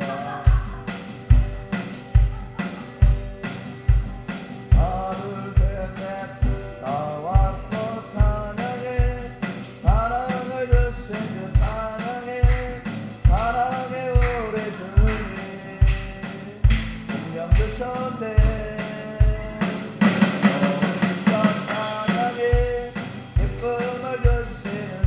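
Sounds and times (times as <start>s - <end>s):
acoustic guitar strumming: 0.0s - 25.0s
electronic drum beat: 0.0s - 25.0s
man singing: 4.7s - 25.0s.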